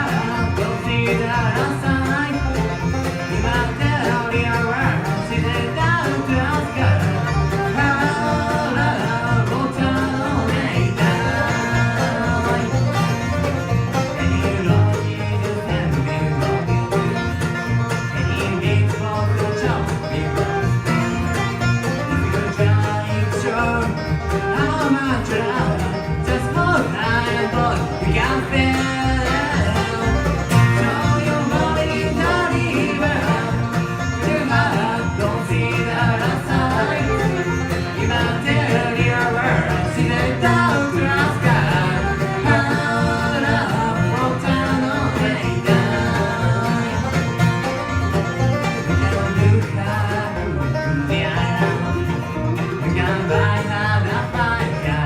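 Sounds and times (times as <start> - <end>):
banjo picking: 0.0 - 55.0
bluegrass band playing: 0.0 - 55.0
guitar picking: 0.0 - 55.0.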